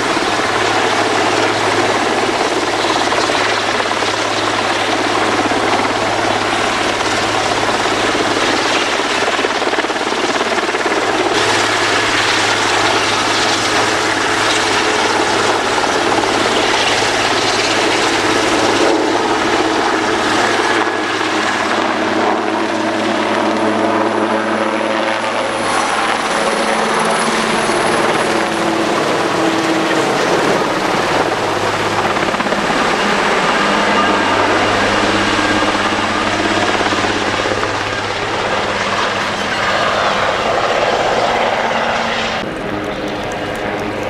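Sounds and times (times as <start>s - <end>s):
helicopter flying overhead: 0.0s - 44.0s.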